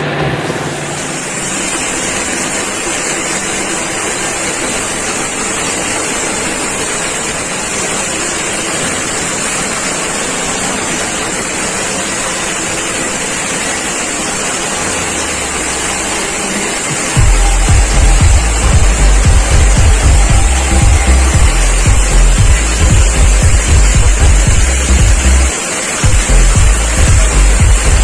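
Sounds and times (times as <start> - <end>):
forage chopper machine whirring: 0.0 - 28.0.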